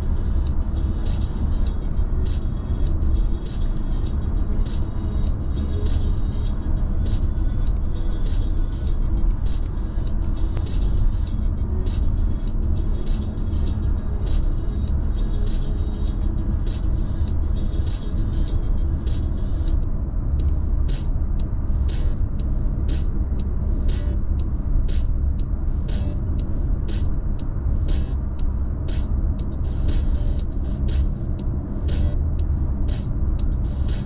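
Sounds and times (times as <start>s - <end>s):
background music with sharp beat: 0.0s - 34.0s
car road and engine rumble: 0.0s - 34.0s.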